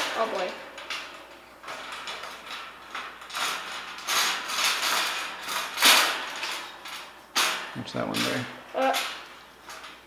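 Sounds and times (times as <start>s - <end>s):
metal cage scraping and rattling: 0.0s - 10.0s.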